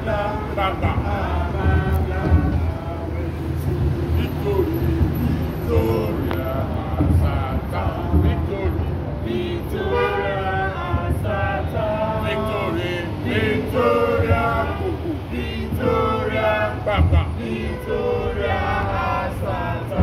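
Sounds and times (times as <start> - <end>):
group singing unaccompanied: 0.0 - 20.0.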